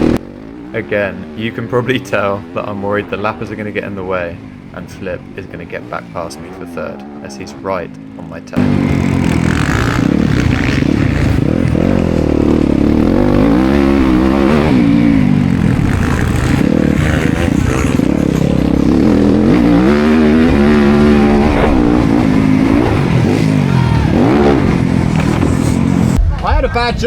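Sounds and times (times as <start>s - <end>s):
motocross bike engine revving: 0.0s - 26.2s.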